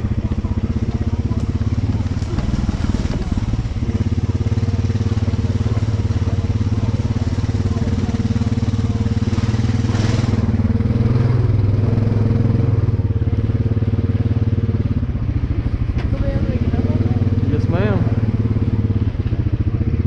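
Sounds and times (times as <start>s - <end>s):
atv engine running in mud: 0.0s - 20.0s.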